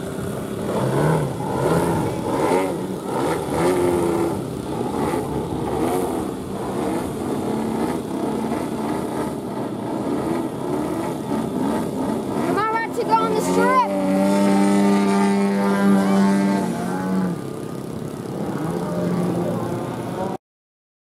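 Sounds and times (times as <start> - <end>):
model plane engines revving: 0.0 - 20.3.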